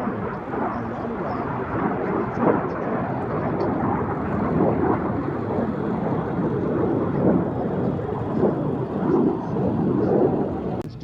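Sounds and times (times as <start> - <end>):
aircraft engine rumble: 0.0 - 11.0.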